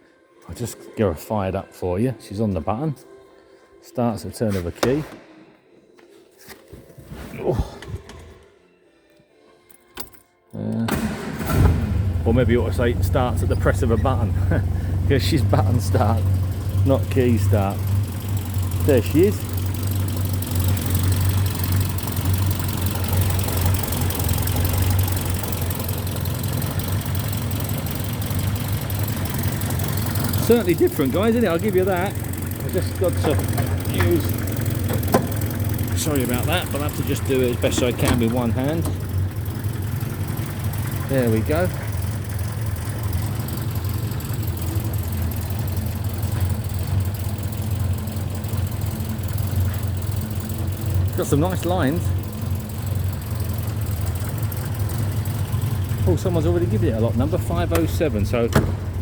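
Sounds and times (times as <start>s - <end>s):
car engine idling: 10.9s - 59.0s.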